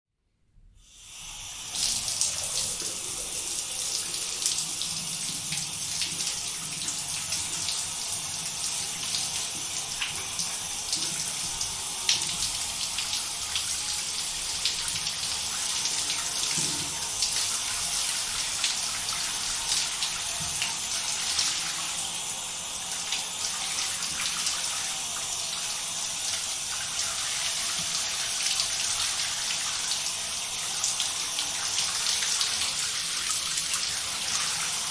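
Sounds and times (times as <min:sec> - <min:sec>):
shower water spraying: 0:00.9 - 0:34.9.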